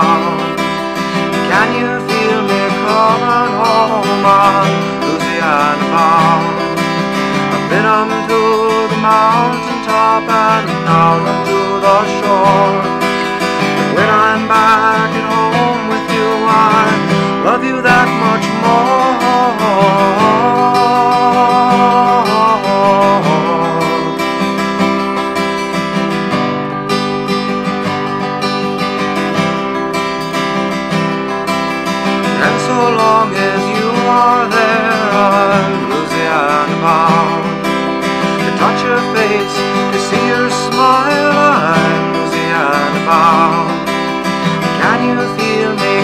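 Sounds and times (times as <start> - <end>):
guitar strumming: 0.0 - 46.0.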